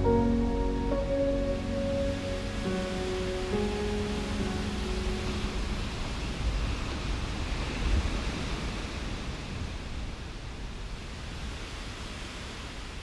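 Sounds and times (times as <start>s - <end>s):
steady rushing noise with low rumble: 0.0s - 12.9s.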